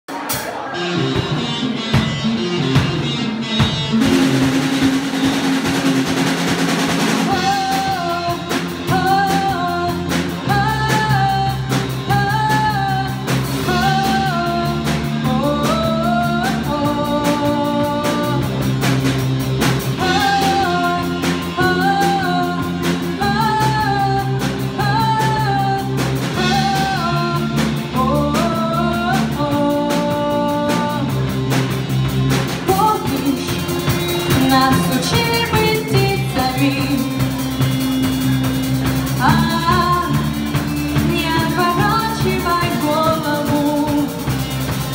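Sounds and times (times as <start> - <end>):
drum kit beat: 0.1 - 44.9
guitar: 0.1 - 44.9
bass notes: 0.4 - 44.9
person singing: 7.0 - 19.1, 19.9 - 31.8, 32.5 - 44.9.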